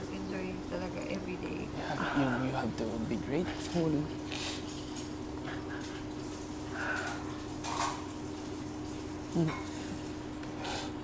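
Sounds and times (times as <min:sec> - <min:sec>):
low room hum and hiss: 0:00.0 - 0:11.0.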